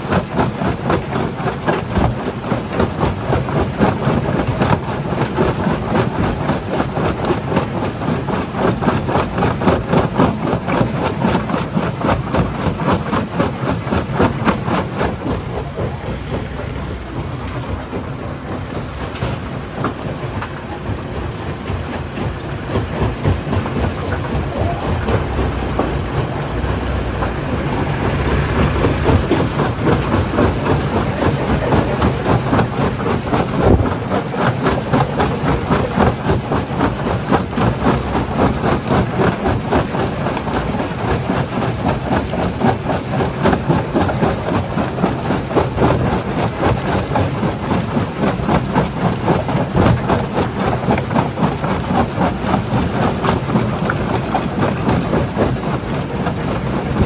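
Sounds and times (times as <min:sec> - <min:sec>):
crusher machine drone: 0:00.0 - 0:57.0.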